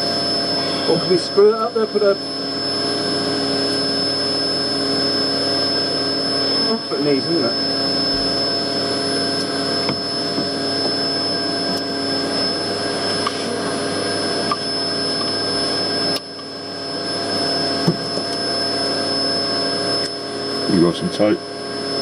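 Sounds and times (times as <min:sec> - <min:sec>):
vacuum running: 0:00.0 - 0:22.0.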